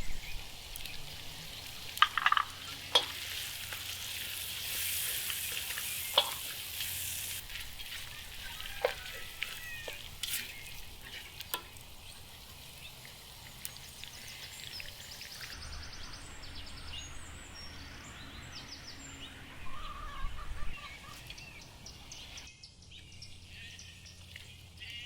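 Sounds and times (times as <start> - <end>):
birds chirping and trilling: 0.0 - 25.0.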